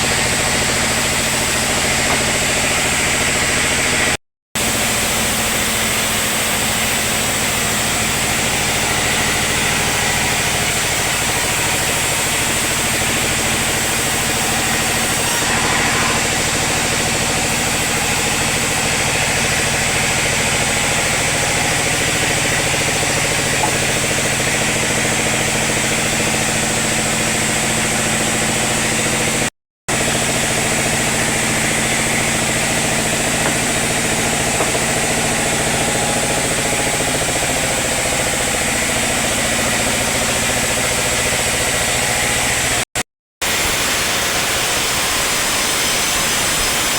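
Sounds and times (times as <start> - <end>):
sawmill machinery droning: 0.0 - 42.8, 43.4 - 46.9.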